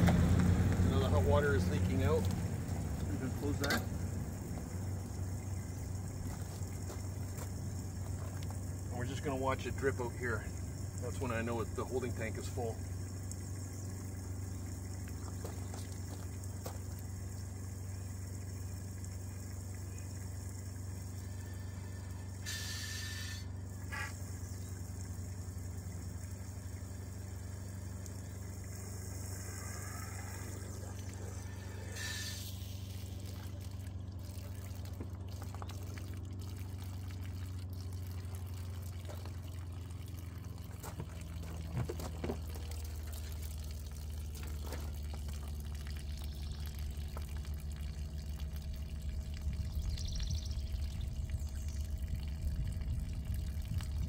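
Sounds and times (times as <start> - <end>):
hose water rushing into tank: 0.0 - 54.0.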